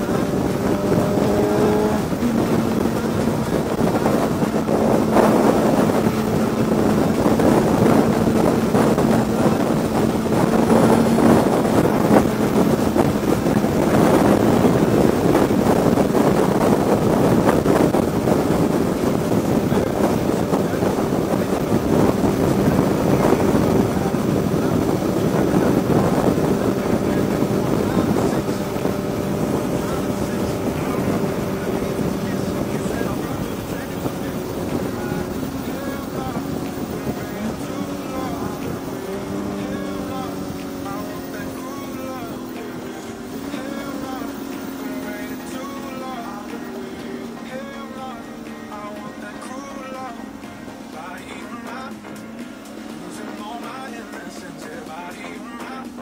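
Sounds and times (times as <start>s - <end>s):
motorcycle engine cruising: 0.0s - 56.0s
wind rush: 0.0s - 56.0s.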